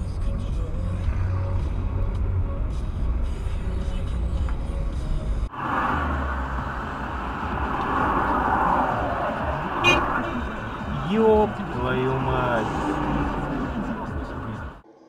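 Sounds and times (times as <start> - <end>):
car driving rumble from inside: 0.0 - 14.8
hissing traffic noise: 0.7 - 14.8.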